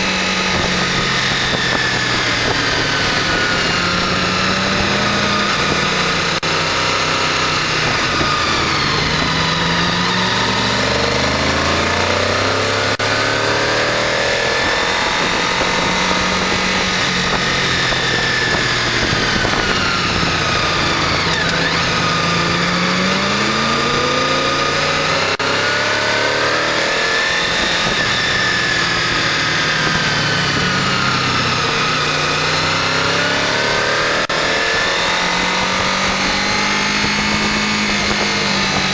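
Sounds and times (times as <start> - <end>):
wind noise: 0.0 - 25.4, 26.7 - 38.9
motorcycle engine revving: 0.0 - 38.9.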